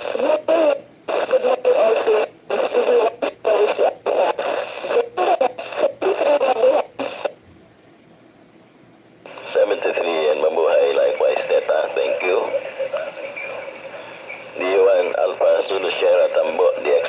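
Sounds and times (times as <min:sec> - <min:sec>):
noisy radio voice transmission: 0:00.0 - 0:07.3, 0:09.3 - 0:17.0
faint radio hiss: 0:00.0 - 0:17.0.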